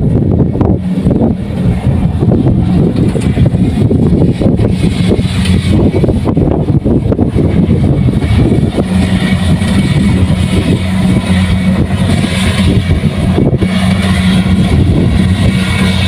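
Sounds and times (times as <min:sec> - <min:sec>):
diesel engine drone: 0:00.0 - 0:16.0
machinery rattle: 0:00.0 - 0:16.0.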